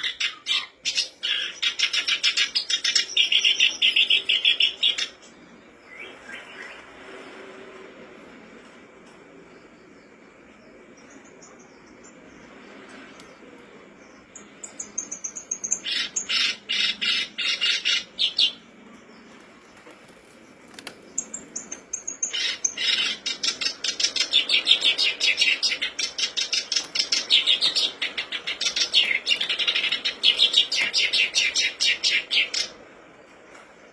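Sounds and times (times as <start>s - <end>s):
warbler singing: 0.0s - 7.6s, 9.5s - 33.9s.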